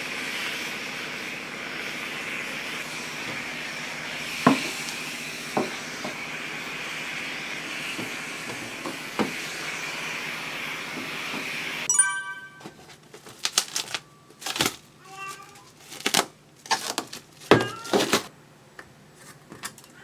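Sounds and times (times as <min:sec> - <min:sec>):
garment steamer hissing: 0:00.0 - 0:11.9, 0:13.3 - 0:18.3.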